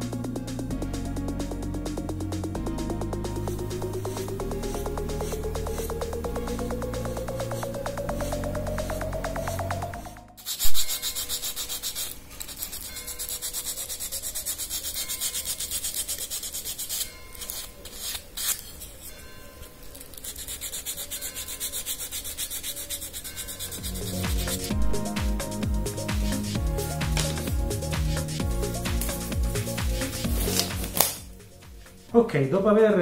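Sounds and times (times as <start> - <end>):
hand sanding wood: 3.3 - 18.9, 20.1 - 32.0.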